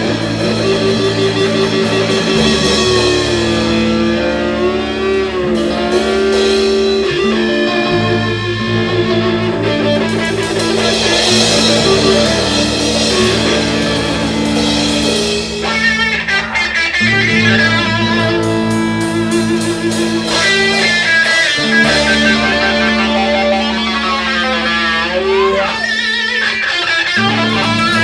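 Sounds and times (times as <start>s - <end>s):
electric guitar lead: 0.0s - 28.0s
live rock band playing: 0.0s - 28.0s.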